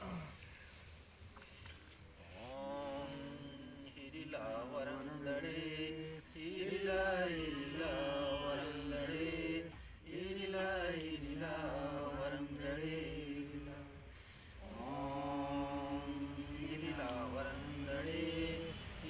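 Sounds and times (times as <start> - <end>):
voices chanting a prayer: 2.2 - 19.0.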